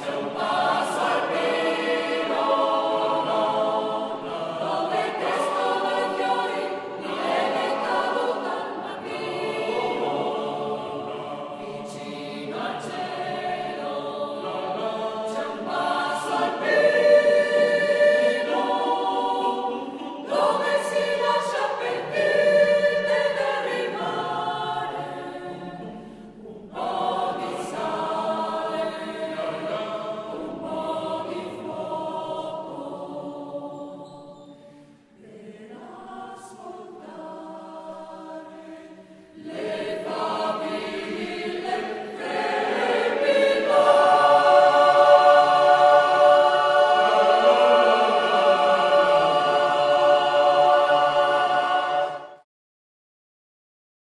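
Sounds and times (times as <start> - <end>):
choir singing: 0.0 - 52.5.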